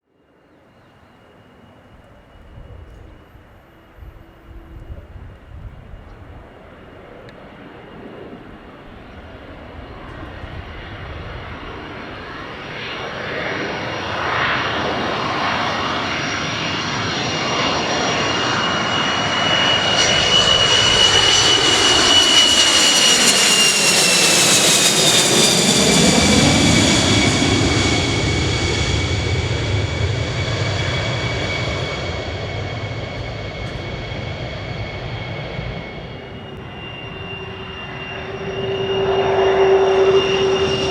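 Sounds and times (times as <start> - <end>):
jet engine whine: 0.1 - 40.9.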